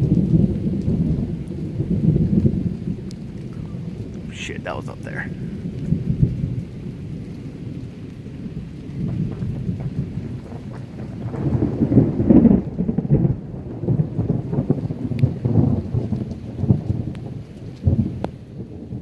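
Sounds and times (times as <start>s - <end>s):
rolling thunder: 0.0s - 19.0s.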